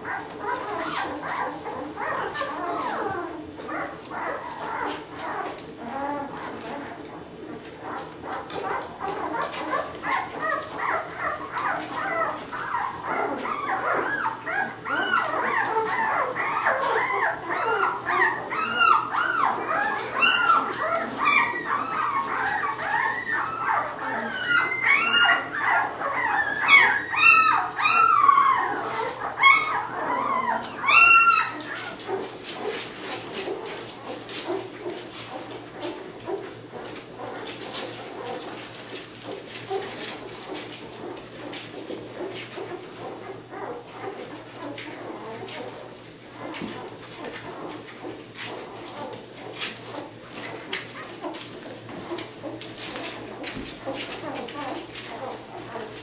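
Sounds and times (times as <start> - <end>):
puppies squealing and whimpering: 0.0 - 56.0.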